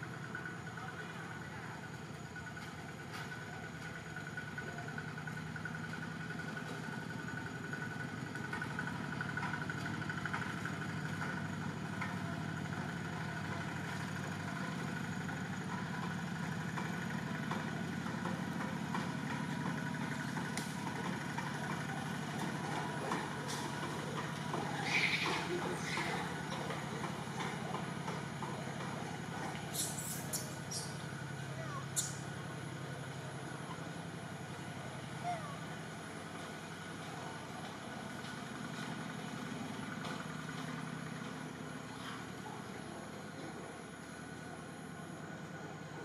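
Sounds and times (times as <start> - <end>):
engine humming: 0.0 - 46.0.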